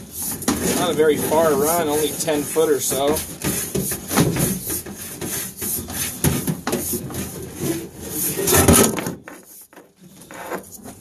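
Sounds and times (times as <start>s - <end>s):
cable scraping inside a duct: 0.0s - 11.0s.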